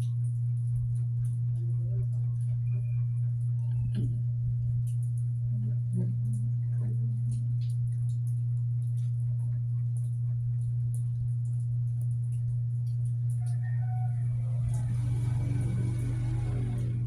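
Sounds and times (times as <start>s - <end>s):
faint ticks and clicks: 0.0s - 15.0s
steady low hum: 0.0s - 17.0s.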